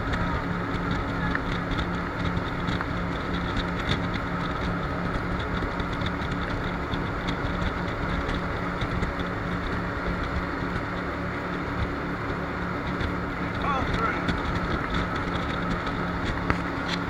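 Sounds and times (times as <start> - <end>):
boat engine running: 0.0 - 17.0
constant rushing noise: 0.0 - 17.0.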